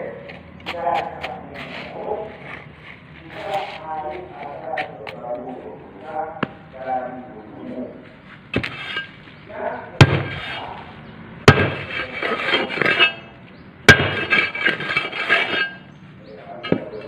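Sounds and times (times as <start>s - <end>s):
gritty scraping and rattling: 0.0s - 7.0s, 7.9s - 17.0s.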